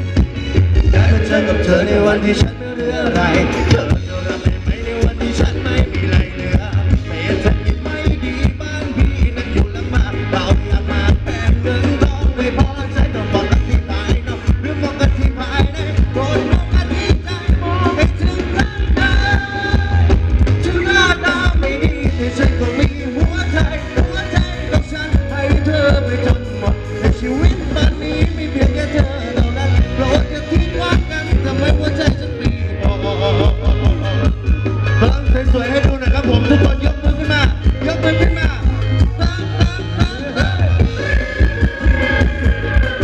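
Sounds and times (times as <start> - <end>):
heavy bass beat: 0.0 - 43.0
live band dance music: 0.0 - 43.0.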